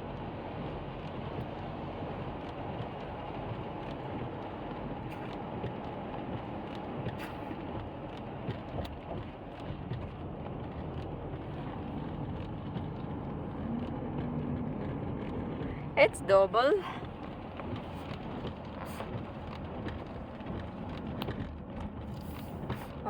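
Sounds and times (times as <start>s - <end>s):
car engine and tyre hum: 0.0s - 23.0s.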